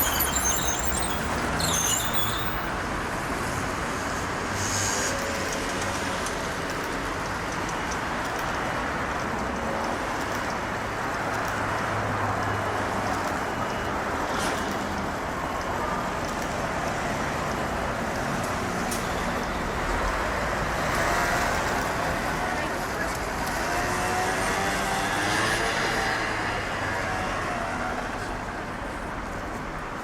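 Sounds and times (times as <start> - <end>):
road traffic roar: 0.0 - 30.0.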